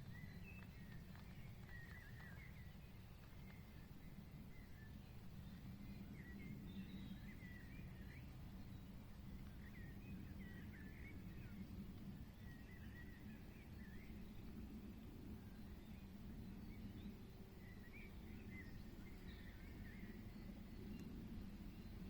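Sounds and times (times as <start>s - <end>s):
faint birdsong chirps: 0.0s - 22.0s
steady low rumble: 0.0s - 22.0s.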